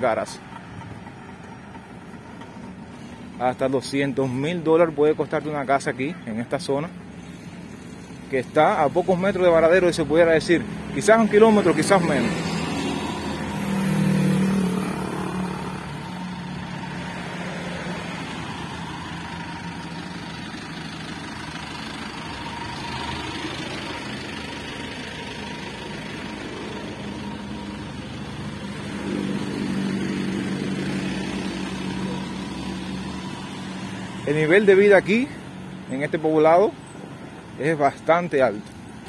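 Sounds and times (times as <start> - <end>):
bus engine running: 0.0 - 39.0
road noise: 0.0 - 39.0
vehicle engine passing: 6.9 - 39.0.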